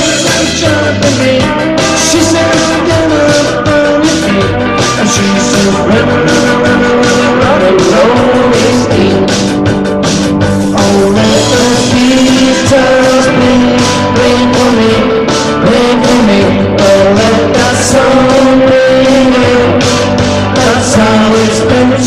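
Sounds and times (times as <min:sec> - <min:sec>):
men singing: 0:00.0 - 0:09.7, 0:10.7 - 0:22.0
electric guitar: 0:00.0 - 0:22.0
steady beat: 0:00.0 - 0:22.0.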